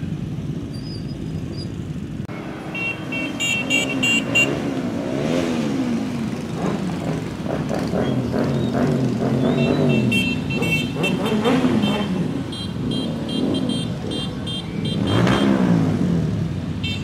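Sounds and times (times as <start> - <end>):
motorcycles revving past: 2.4 - 16.7.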